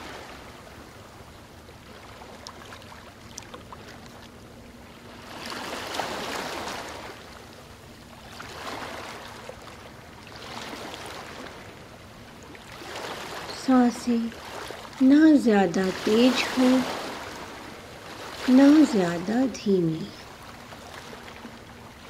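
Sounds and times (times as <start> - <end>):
waves breaking: 0.0 - 22.0.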